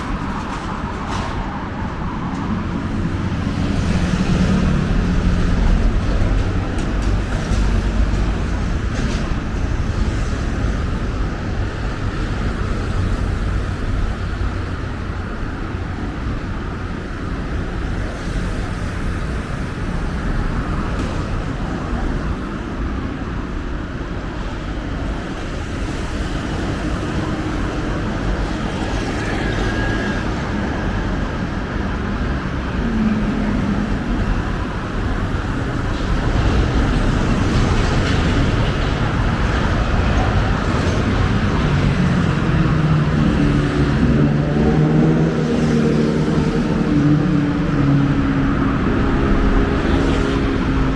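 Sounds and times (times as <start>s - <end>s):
road traffic rumble: 0.0s - 50.9s.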